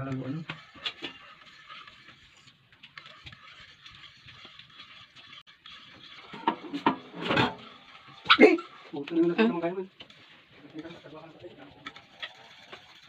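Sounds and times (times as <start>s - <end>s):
spoon scraping bowl: 0.0s - 13.0s.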